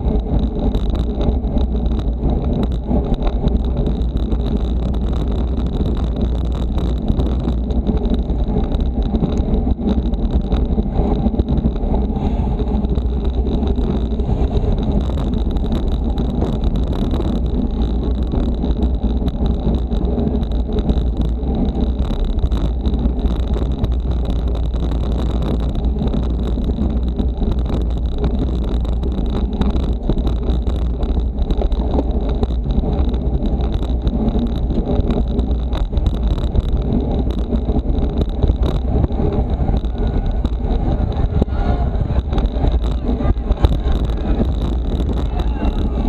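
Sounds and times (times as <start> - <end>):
bicycle tyres on asphalt: 0.0 - 46.0
wind rumble on microphone: 0.0 - 46.0.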